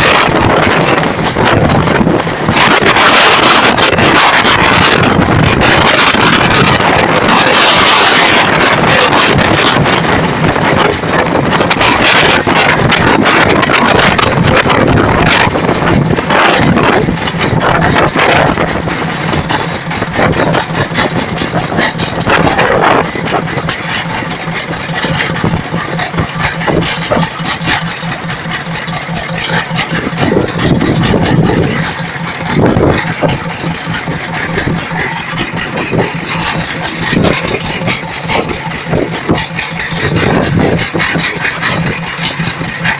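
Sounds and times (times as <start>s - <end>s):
boat engine humming: 0.0s - 42.9s
loud rushing noise: 0.0s - 42.9s.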